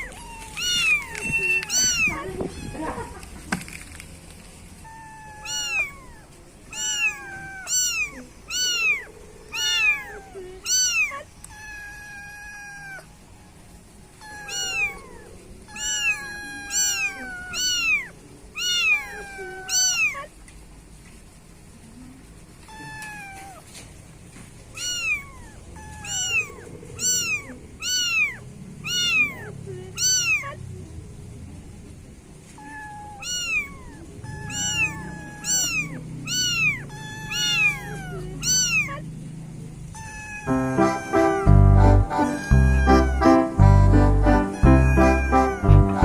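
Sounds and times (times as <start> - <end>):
kittens meowing: 0.0 - 3.7, 4.8 - 20.4, 22.6 - 23.9, 24.7 - 30.7, 32.5 - 39.2, 39.8 - 46.0.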